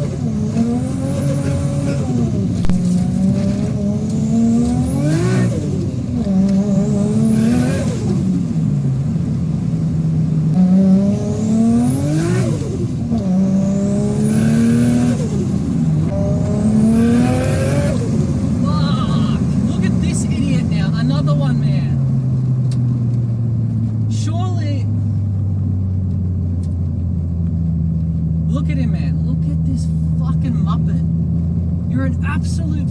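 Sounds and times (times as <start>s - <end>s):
turbocharged car engine revving: 0.0s - 32.9s.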